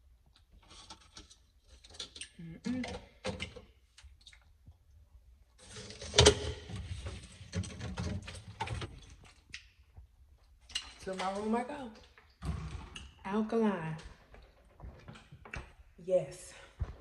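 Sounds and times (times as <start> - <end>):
objects rustling and clattering: 0.3 - 4.3, 5.6 - 13.3, 13.9 - 16.0.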